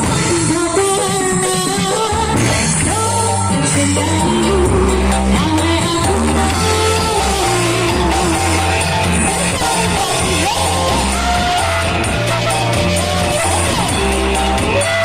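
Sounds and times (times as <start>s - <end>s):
loud music with singing: 0.0s - 15.0s.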